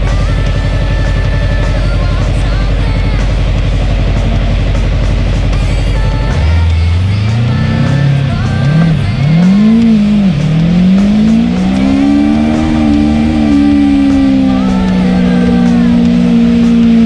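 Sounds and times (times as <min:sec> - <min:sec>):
motorcycle engine accelerating: 0:00.0 - 0:17.0
music: 0:00.0 - 0:17.0.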